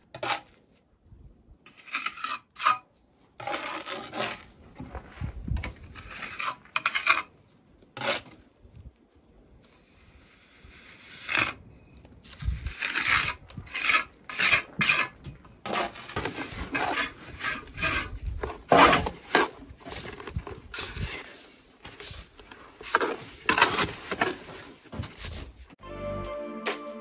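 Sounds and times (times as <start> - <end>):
trowel scraping mortar: 0.0 - 0.8, 1.6 - 8.6, 9.6 - 25.7.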